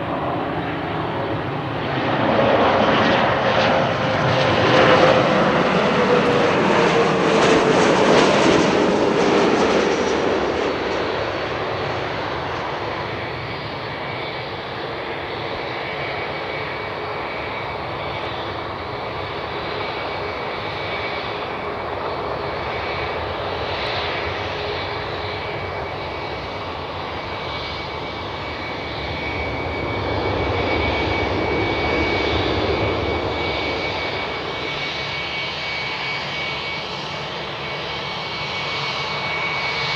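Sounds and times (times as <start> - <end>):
another airliner's engines: 0.0 - 39.9
jet engines passing: 0.0 - 39.9.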